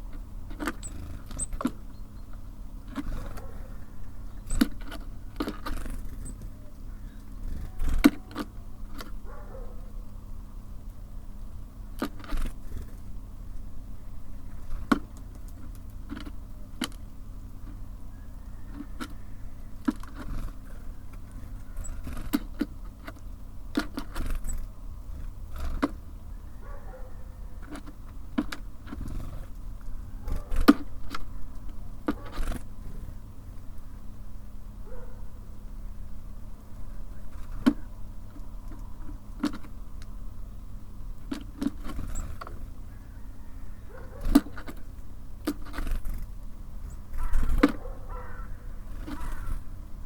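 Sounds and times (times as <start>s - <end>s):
birds pecking at a feeder: 0.0s - 50.0s
low hum of city traffic: 0.0s - 50.0s.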